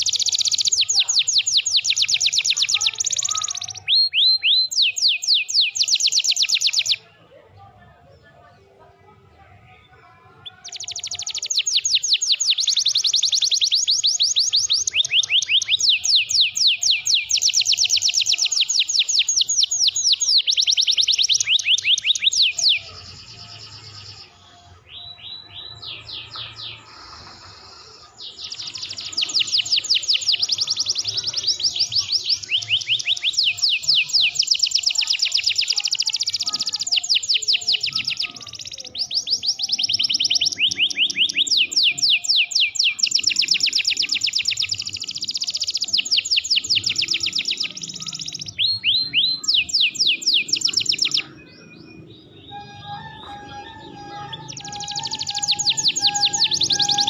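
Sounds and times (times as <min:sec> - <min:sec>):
canary singing rapid trills: 0:00.0 - 0:07.0, 0:10.4 - 0:57.0.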